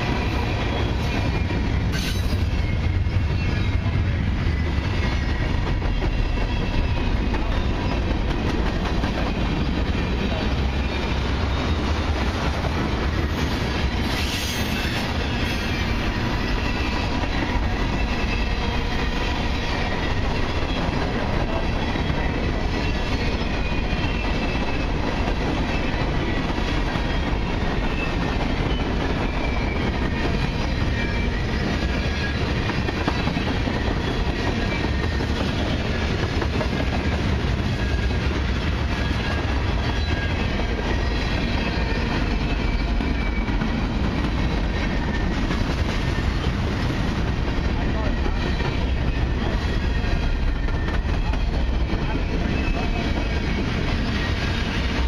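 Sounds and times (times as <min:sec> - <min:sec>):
train wheels on rail: 0:00.0 - 0:55.0.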